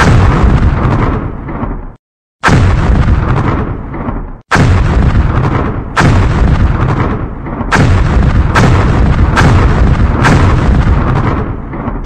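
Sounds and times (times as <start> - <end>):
loud explosions with rumble: 0.0 - 12.0.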